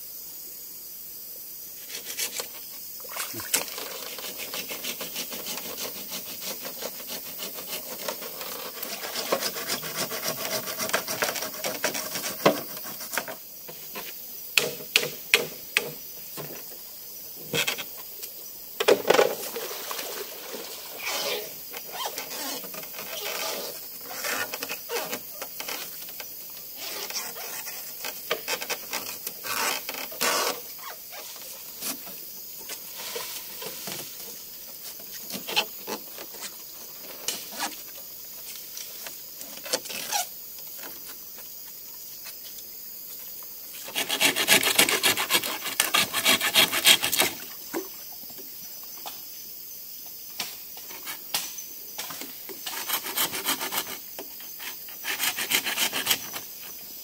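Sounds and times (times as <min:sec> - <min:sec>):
steady hiss: 0:00.0 - 0:57.0
wood scraping: 0:01.8 - 0:16.7, 0:18.8 - 0:41.5, 0:43.7 - 0:47.9, 0:52.0 - 0:56.8.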